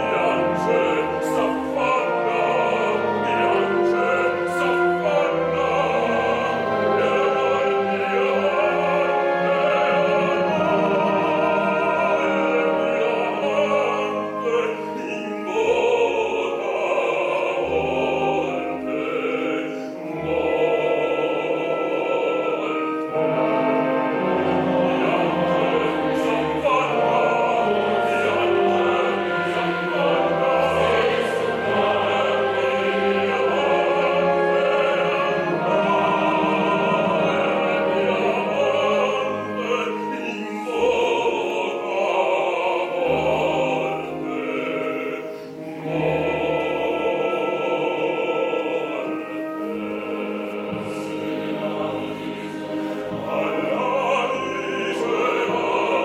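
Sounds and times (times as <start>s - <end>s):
chorus singing: 0.0s - 56.0s
orchestra playing: 0.0s - 56.0s.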